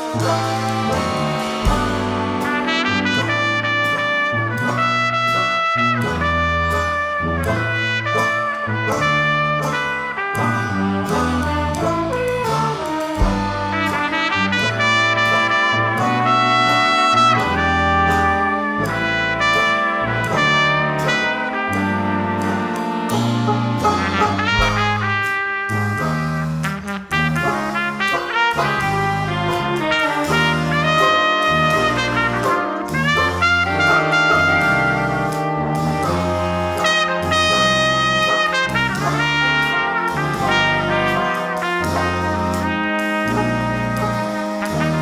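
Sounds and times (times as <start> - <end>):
brass band playing jazz: 0.0 - 45.0.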